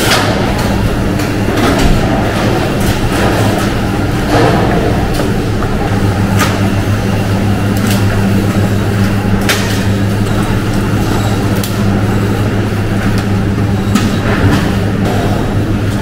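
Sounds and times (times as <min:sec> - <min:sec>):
machinery humming: 0:00.0 - 0:16.0.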